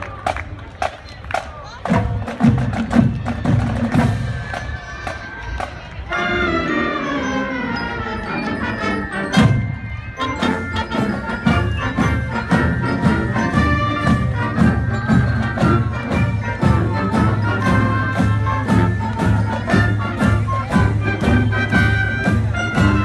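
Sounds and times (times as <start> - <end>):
marching band playing: 0.1 - 23.0.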